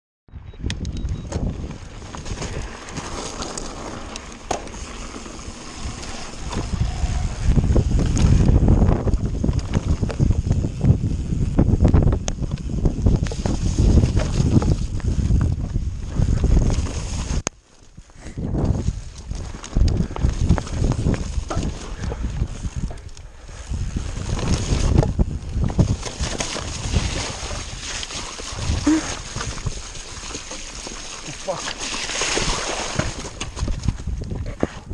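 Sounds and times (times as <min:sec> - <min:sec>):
wind buffeting microphone: 0:00.3 - 0:30.3, 0:32.2 - 0:34.9
bike rattling: 0:00.8 - 0:34.9
tyres crunching over stones: 0:01.4 - 0:10.4, 0:12.4 - 0:34.3.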